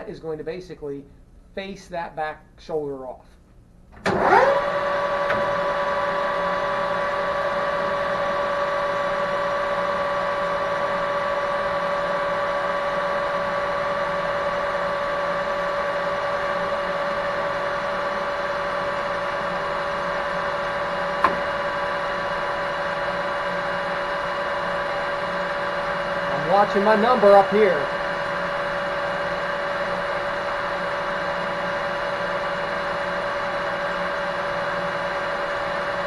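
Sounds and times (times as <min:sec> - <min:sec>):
metal lathe whining: 0:04.1 - 0:36.0.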